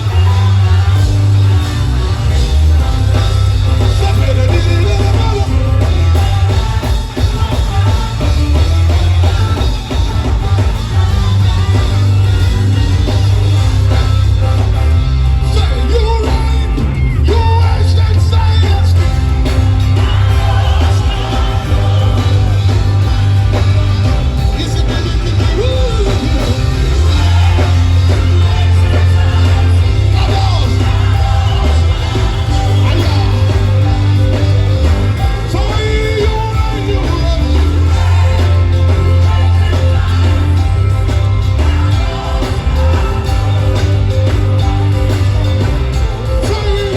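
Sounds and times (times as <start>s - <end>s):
band playing worship music: 0.0s - 46.9s
heavy pulsing bass: 0.0s - 46.9s
singing: 0.0s - 46.9s.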